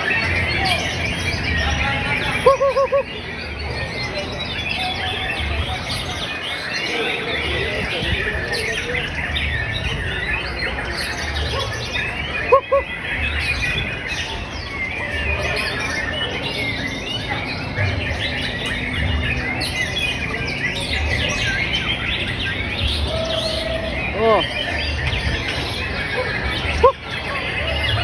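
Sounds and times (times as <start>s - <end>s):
loud low bird notes: 0.0s - 28.0s
songbirds chirping and trilling: 0.0s - 28.0s.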